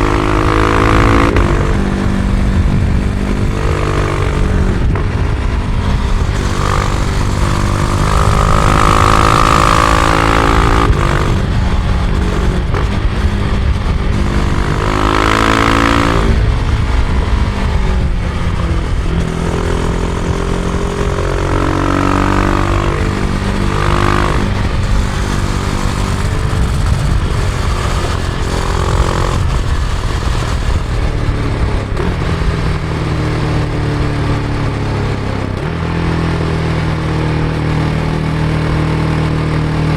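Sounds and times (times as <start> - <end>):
wind rushing: 0.0 - 33.2
motorcycle engine revving: 0.0 - 39.9.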